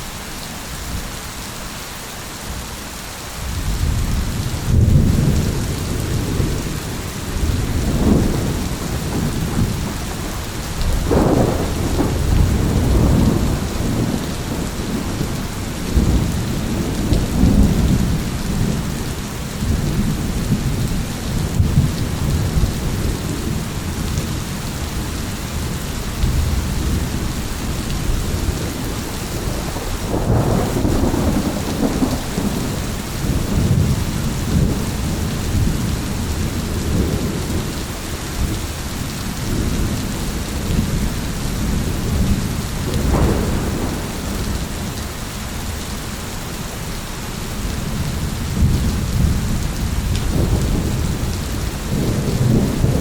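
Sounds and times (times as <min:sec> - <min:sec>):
steady rain: 0:00.0 - 0:53.0
rolling thunder: 0:03.5 - 0:45.8, 0:47.7 - 0:53.0.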